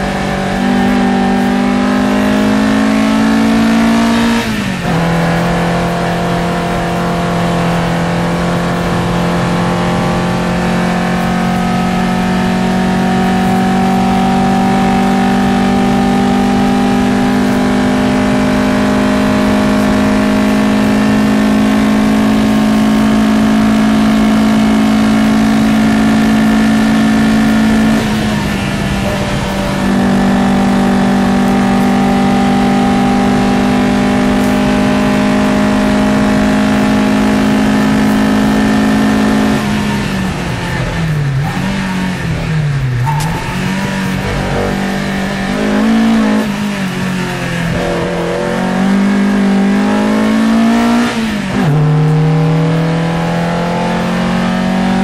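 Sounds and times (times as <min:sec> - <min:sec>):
racing engine at high revs: 0:00.0 - 0:55.0.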